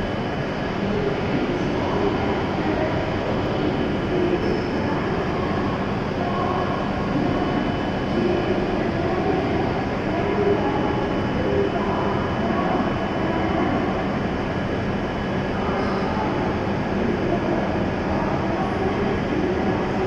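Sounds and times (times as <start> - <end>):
station platform rumble and hum: 0.0 - 20.0.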